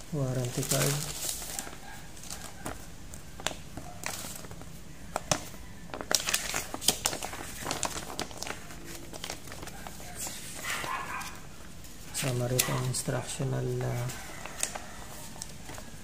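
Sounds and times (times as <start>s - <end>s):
plastic wrapping crinkling: 0.0s - 16.0s
paper rustling: 0.2s - 16.0s.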